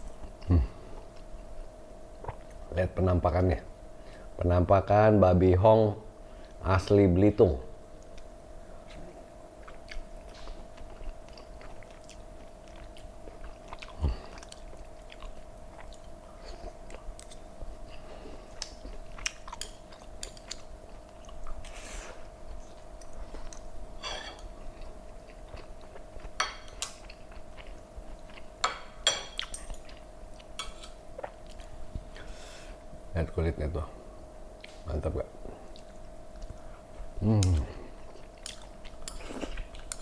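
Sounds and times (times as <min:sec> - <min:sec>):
man chewing food: 0:00.0 - 0:02.7, 0:08.0 - 0:32.9, 0:35.6 - 0:40.0
faint steady hum: 0:00.0 - 0:40.0.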